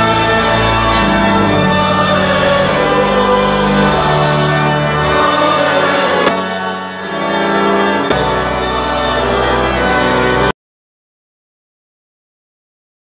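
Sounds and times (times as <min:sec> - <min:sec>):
deep organ pedal bass: 0:00.0 - 0:10.5
pipe organ chords: 0:00.0 - 0:10.6.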